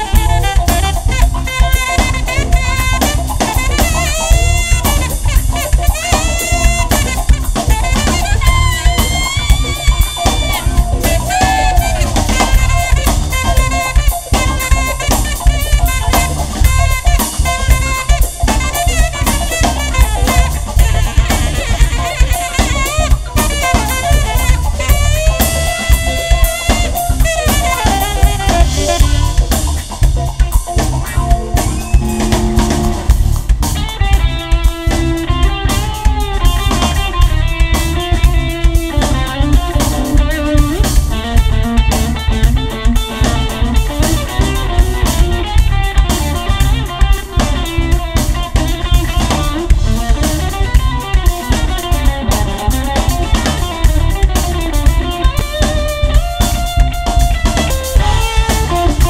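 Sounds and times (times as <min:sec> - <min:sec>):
live band playing: 0:00.0 - 0:59.0
saxophone line: 0:00.0 - 0:59.0.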